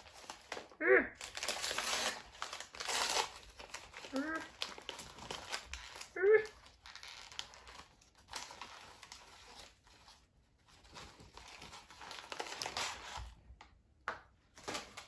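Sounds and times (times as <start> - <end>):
wrapping paper crinkling: 0.0 - 13.5, 14.5 - 15.0.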